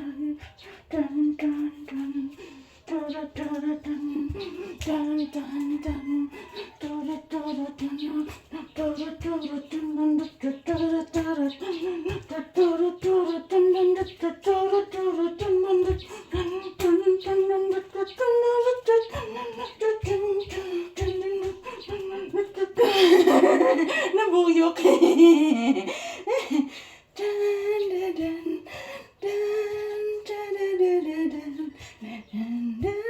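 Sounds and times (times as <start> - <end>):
person humming a tune: 0.0 - 33.0.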